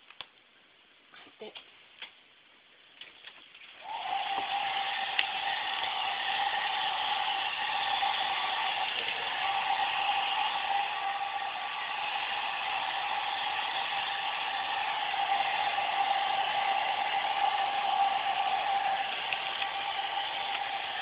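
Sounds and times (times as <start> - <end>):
hair dryer blowing: 3.8 - 21.0.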